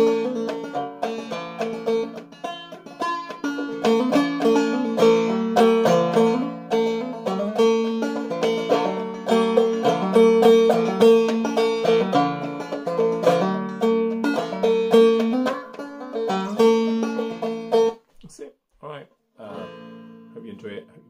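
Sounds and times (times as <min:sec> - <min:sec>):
banjo playing old-time melody: 0:00.0 - 0:18.0, 0:19.4 - 0:20.9.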